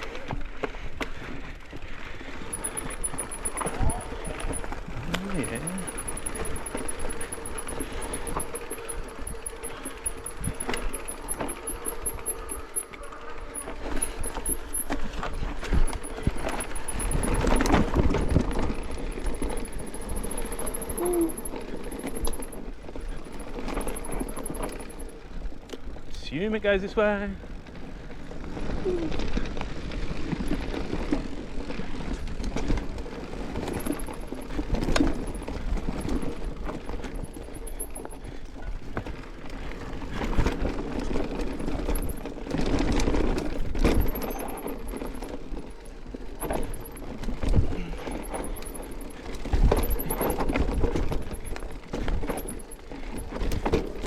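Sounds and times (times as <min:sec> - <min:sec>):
bike knocking and rattling: 0:00.0 - 0:54.0
bike tyres rumbling over dirt: 0:00.0 - 0:54.0.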